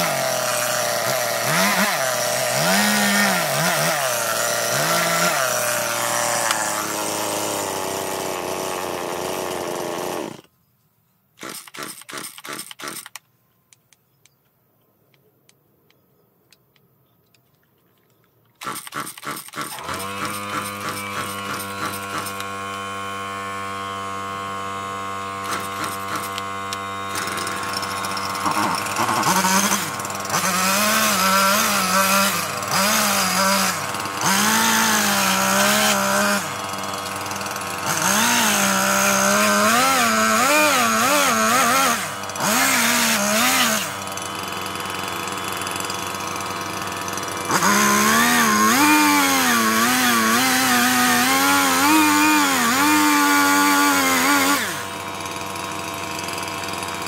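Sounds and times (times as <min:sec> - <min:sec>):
chainsaw cutting wood: 0:00.0 - 0:10.5, 0:11.4 - 0:13.2, 0:18.6 - 0:57.0
chainsaw idling: 0:00.0 - 0:10.5, 0:18.6 - 0:57.0.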